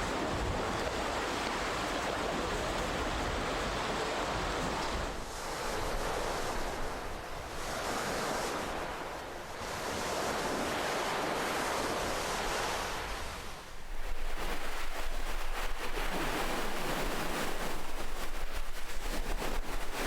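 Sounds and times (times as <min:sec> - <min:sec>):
waves breaking on shore: 0:00.0 - 0:20.0.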